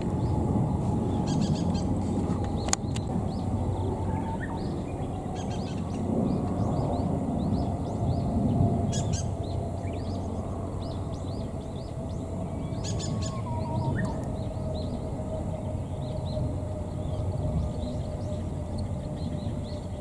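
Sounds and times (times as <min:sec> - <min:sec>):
low rumble: 0:00.0 - 0:20.0
small birds chirping: 0:00.2 - 0:20.0.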